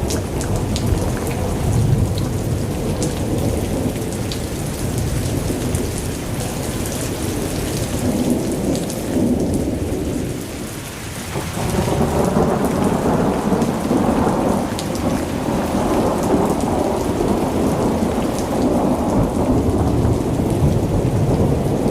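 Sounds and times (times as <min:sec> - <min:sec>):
rolling thunder: 0:00.0 - 0:10.7, 0:11.3 - 0:21.9
rain falling: 0:00.0 - 0:21.9.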